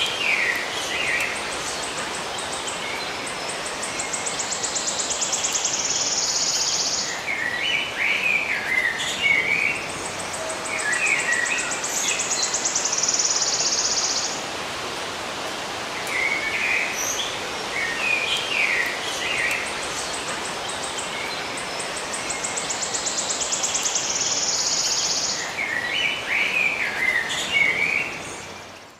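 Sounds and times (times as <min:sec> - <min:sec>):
birds chirping: 0:00.0 - 0:28.9
outdoor ambience hiss: 0:00.0 - 0:28.9.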